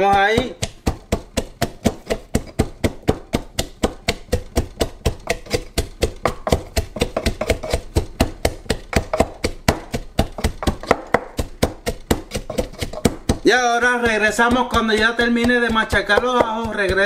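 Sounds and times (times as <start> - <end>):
pestle pounding in mortar: 0.0 - 17.0.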